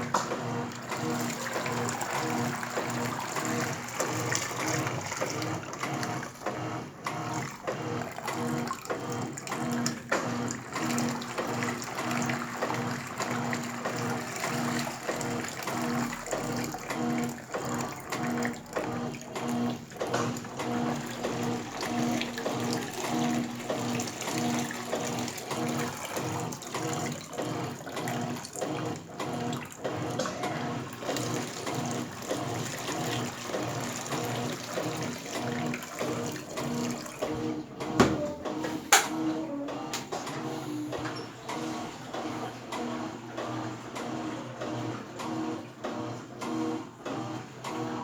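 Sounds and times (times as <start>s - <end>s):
pulsing motor hum: 0.0s - 43.3s
washing machine agitator swishing: 0.0s - 48.0s.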